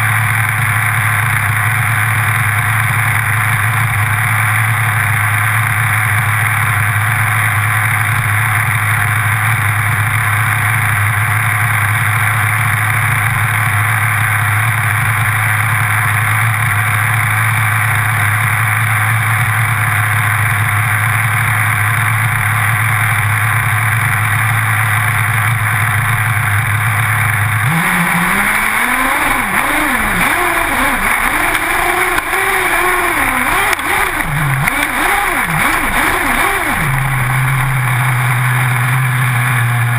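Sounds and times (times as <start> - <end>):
small two-stroke engine: 0.0 - 39.9.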